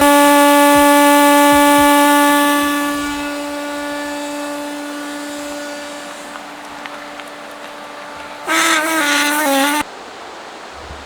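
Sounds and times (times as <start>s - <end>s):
air hissing from tire: 0.0s - 9.8s
tire deflator whistle tone: 0.0s - 9.8s.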